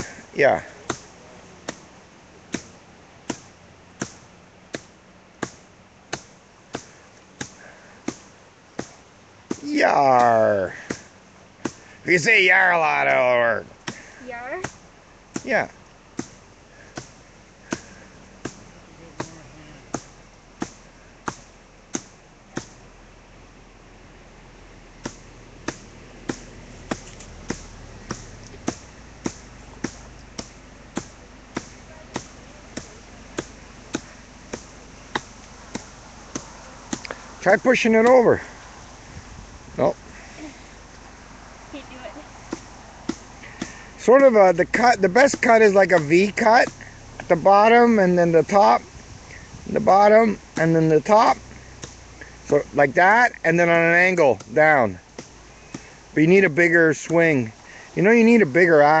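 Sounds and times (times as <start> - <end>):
axe chopping tree trunk: 0.0 - 12.0, 13.0 - 23.1, 25.0 - 38.6, 42.5 - 59.0.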